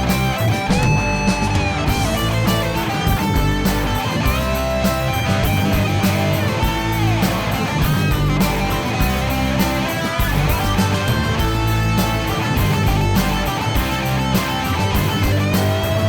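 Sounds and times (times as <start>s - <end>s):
bass guitar: 0.0s - 16.0s
drums with steady beat: 0.0s - 16.0s
lead electric guitar: 0.0s - 16.0s
strummed guitar: 0.0s - 16.0s.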